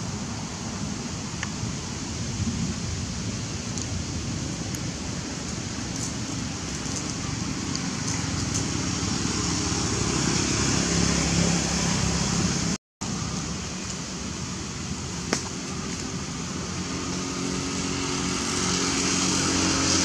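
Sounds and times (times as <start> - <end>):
steady outdoor noise: 0.0 - 20.0.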